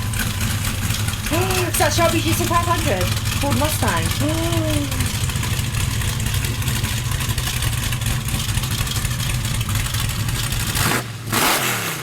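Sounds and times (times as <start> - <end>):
car exhaust idling: 0.0 - 11.3.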